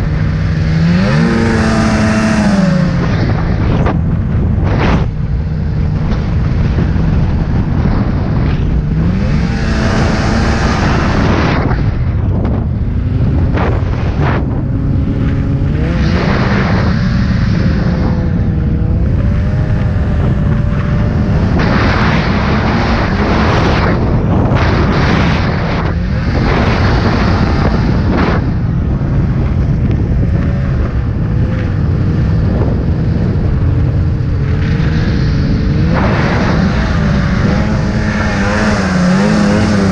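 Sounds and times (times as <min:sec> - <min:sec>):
rushing wind and snow spray: 0:00.0 - 0:39.9
snowmobile engine running: 0:00.0 - 0:39.9.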